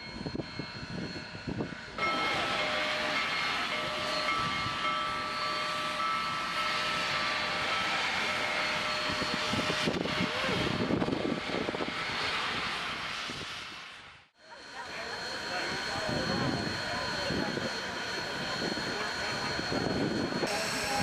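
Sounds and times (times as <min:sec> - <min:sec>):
steam locomotive roar and hiss: 0:00.0 - 0:21.0.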